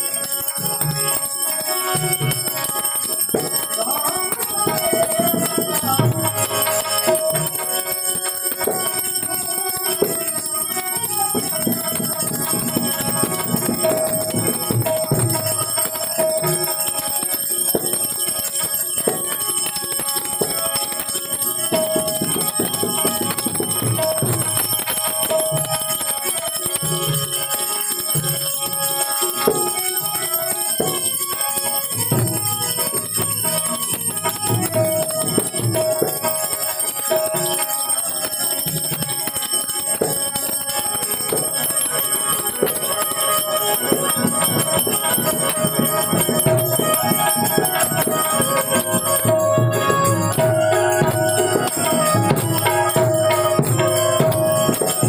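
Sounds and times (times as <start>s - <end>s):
bright metallic ringing: 0.0s - 55.0s
harmonium melody: 0.0s - 55.0s.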